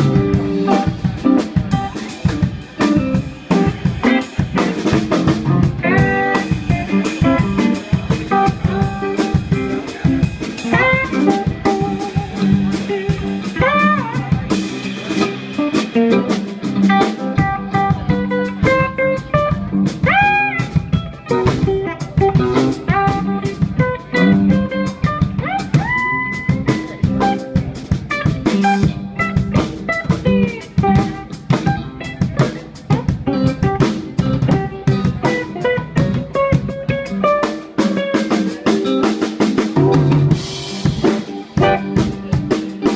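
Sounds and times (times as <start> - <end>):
drum kit: 0.0 - 42.9
electric guitar lead: 0.0 - 42.9.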